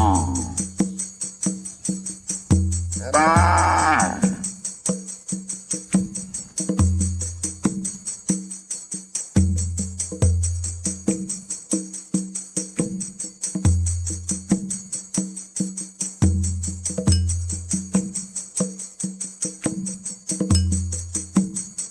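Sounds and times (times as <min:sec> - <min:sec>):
music with quick percussive beat: 0:00.0 - 0:21.9.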